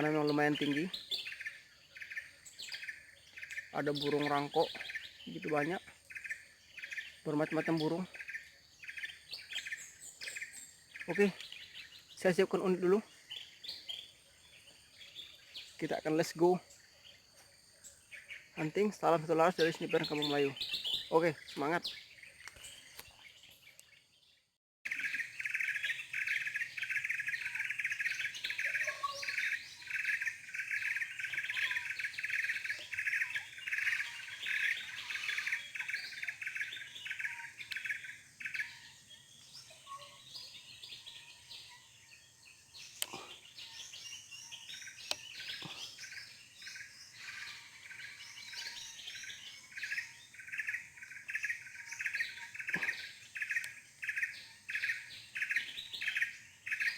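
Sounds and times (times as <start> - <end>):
many birds chirping: 0.0 - 56.9.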